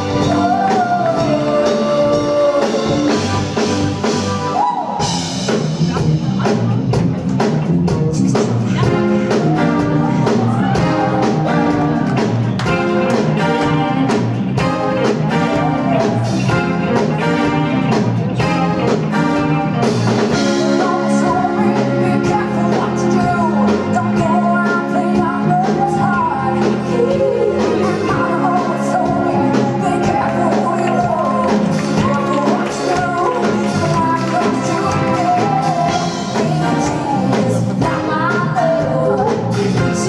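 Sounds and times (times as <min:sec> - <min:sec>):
person singing: 0:00.0 - 0:05.7, 0:08.0 - 0:40.0
drum kit beat: 0:00.0 - 0:40.0
keyboard chords: 0:00.0 - 0:40.0.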